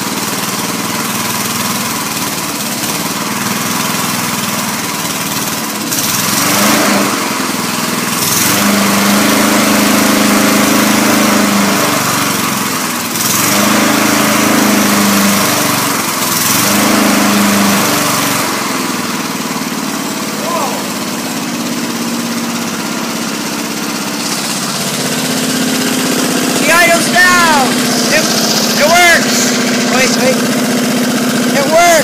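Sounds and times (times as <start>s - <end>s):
lawnmower engine revving: 0.0s - 32.0s.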